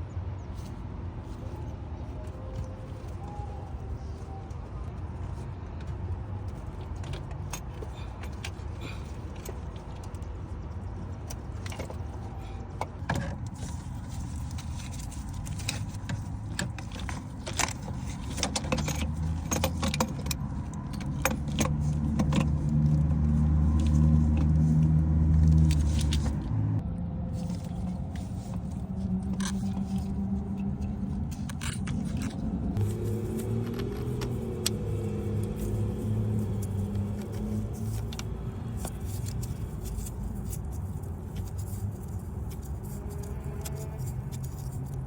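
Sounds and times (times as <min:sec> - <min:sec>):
vehicle engine running: 0:01.3 - 0:45.0
tools and metal parts clinking: 0:02.2 - 0:26.4, 0:27.4 - 0:45.0.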